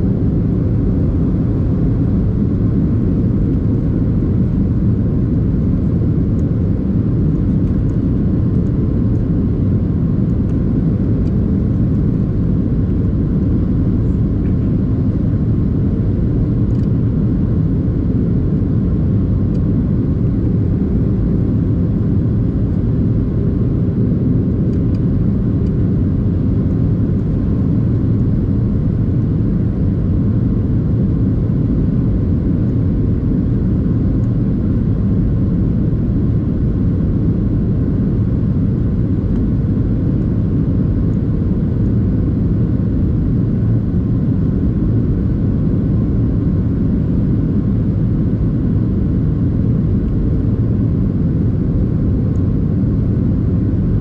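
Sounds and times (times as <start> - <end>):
aircraft cabin rumble: 0.0 - 54.0
faint steady hum: 0.0 - 54.0.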